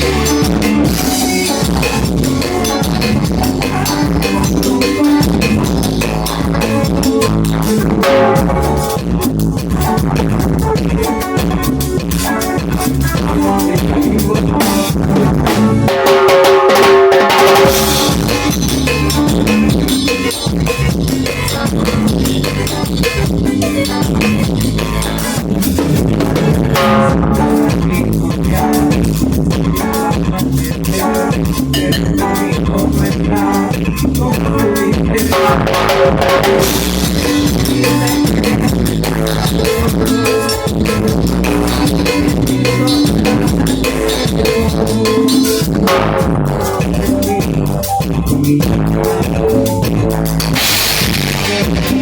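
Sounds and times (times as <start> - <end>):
bass and guitar notes: 0.0 - 52.0
drum kit playing: 0.0 - 52.0.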